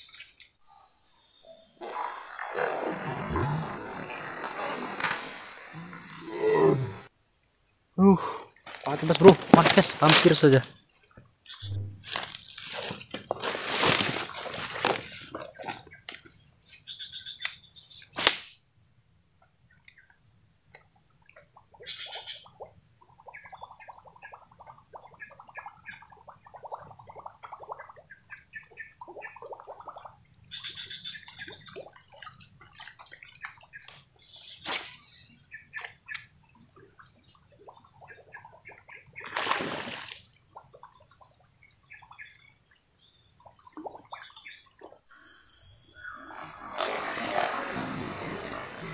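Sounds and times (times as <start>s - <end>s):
insect drone: 0.0s - 48.9s.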